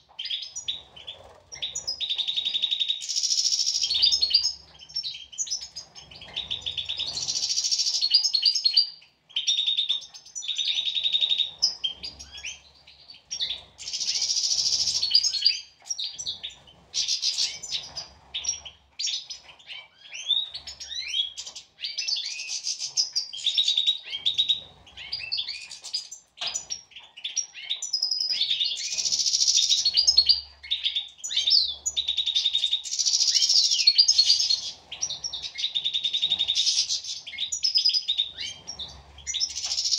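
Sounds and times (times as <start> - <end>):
goldfinches twittering song: 1.5 - 39.9.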